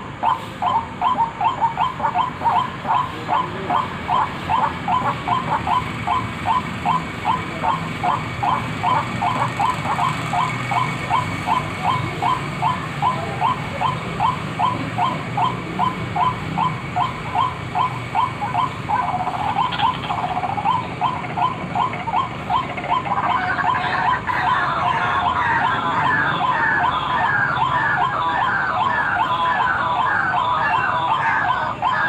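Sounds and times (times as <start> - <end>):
waterhen call: 0.2 - 32.0.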